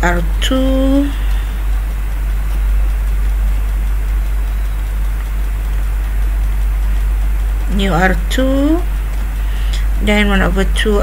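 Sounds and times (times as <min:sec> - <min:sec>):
recording hiss: 0:00.0 - 0:11.0
steady low hum: 0:00.0 - 0:11.0.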